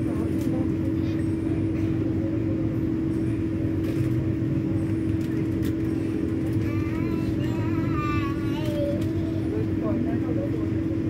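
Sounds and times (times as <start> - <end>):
constant hum: 0.0 - 11.0
train rumbling slowly: 0.0 - 11.0.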